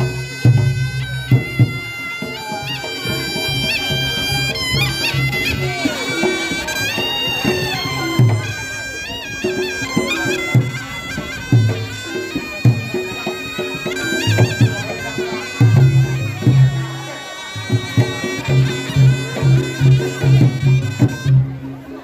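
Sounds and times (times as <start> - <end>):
shawm playing wavering melody: 0.0 - 22.0.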